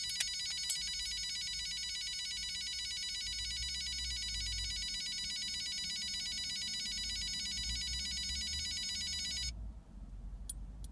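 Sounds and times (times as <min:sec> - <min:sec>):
car electronic warning warble: 0:00.0 - 0:09.5.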